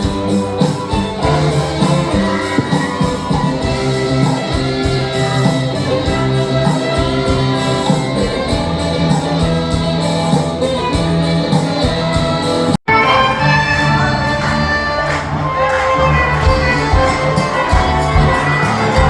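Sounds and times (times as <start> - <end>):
bass guitar and percussion: 0.0 - 19.0
orchestra playing: 0.0 - 19.0.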